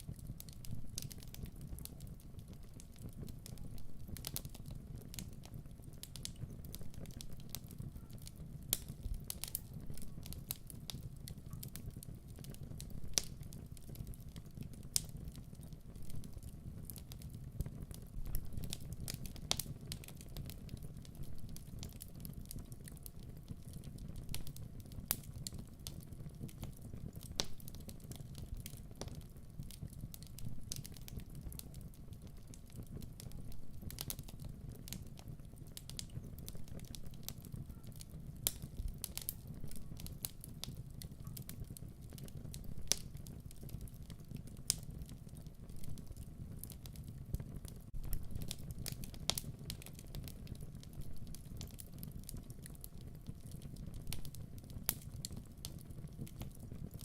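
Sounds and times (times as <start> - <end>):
fire crackles and pops: 0.0 - 57.0
fire low rumble: 0.0 - 57.0.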